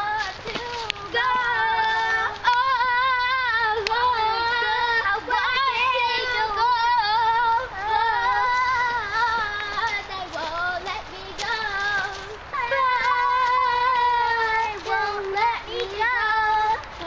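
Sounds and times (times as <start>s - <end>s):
girls singing: 0.0s - 17.0s.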